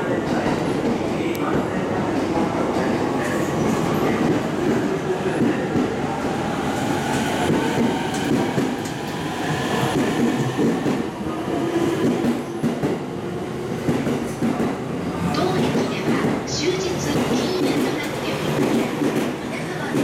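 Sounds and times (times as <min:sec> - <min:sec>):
electric train wheels on rails: 0:00.5 - 0:20.0.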